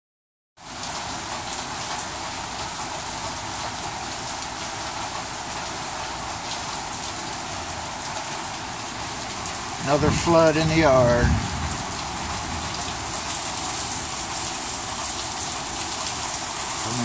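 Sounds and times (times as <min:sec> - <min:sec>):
heavy rain on lawn: 0:00.6 - 0:17.0
loud raindrops striking nearby: 0:00.6 - 0:17.0.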